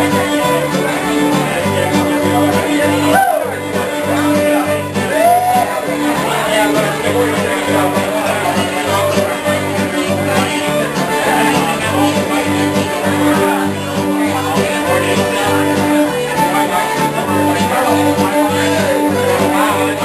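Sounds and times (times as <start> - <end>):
accordion: 0.0 - 20.0
crowd chatter: 0.0 - 20.0
guitar: 0.0 - 20.0.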